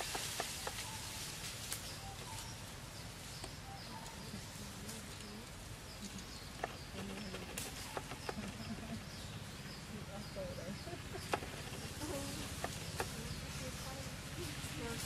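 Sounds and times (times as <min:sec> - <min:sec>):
chirping animal calls: 0:00.0 - 0:15.0.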